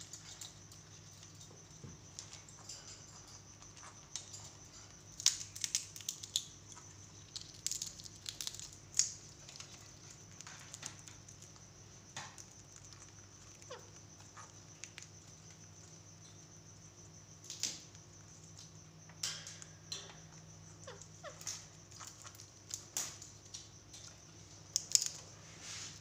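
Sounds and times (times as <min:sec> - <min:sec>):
parakeet cracking a peanut: 0:00.0 - 0:16.3, 0:17.4 - 0:25.2.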